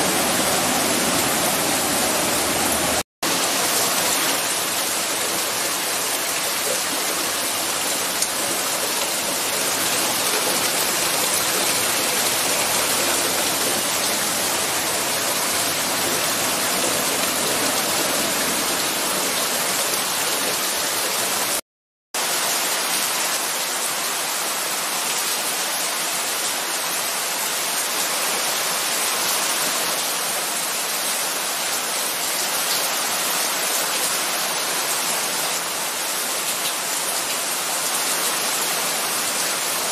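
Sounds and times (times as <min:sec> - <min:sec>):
heavy rain pouring: 0:00.0 - 0:21.6, 0:22.2 - 0:39.9.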